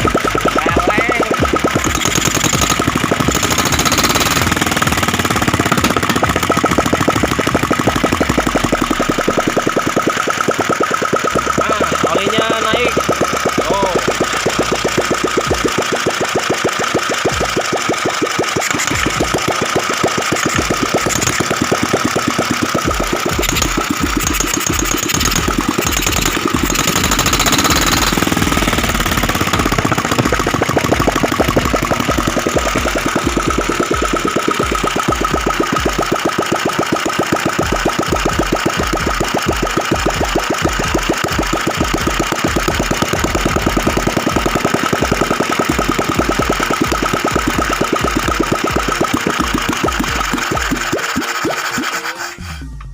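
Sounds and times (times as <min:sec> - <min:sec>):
single-cylinder engine running: 0:00.0 - 0:52.9.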